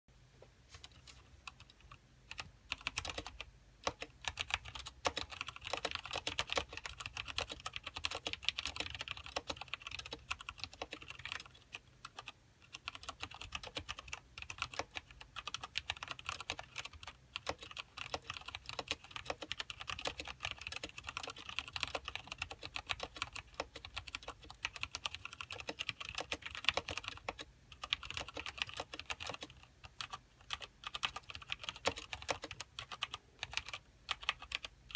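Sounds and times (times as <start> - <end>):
mechanical keyboard typing: 0.8 - 34.9.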